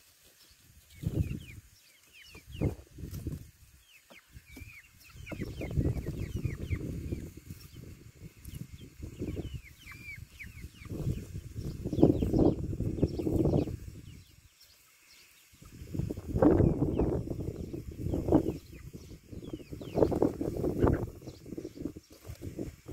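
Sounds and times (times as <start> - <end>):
chicks peeping: 0.0 - 22.9.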